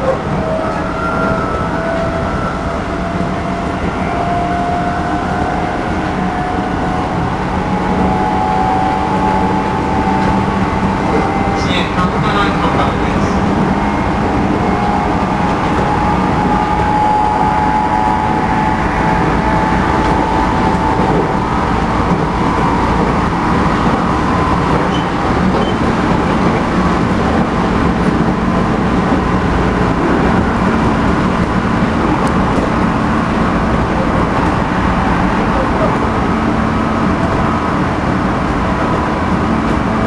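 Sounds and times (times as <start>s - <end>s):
train wheels rumbling on rail: 0.0s - 40.0s
traction motor whine: 0.2s - 11.6s, 13.3s - 37.4s.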